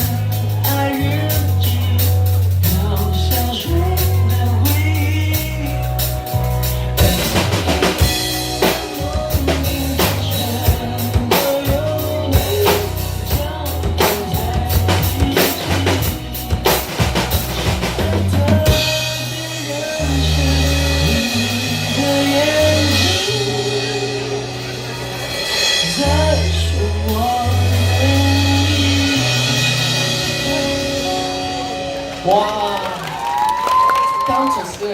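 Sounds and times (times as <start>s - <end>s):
held bass notes: 0.0s - 32.9s
drum kit: 0.0s - 34.2s
live band playing pop music: 0.0s - 34.9s.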